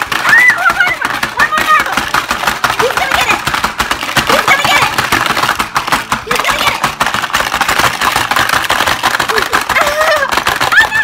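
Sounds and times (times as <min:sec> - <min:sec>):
marbles rattling across board: 0:00.0 - 0:11.0.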